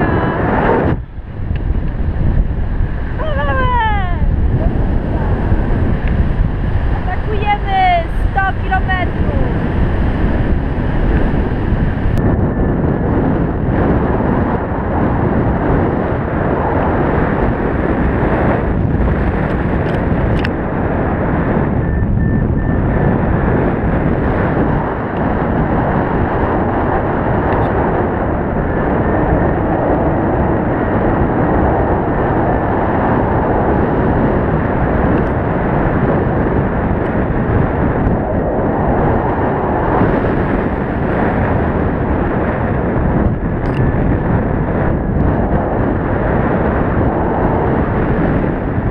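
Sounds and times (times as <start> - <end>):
wind rumble on microphone: 0.0 - 48.9.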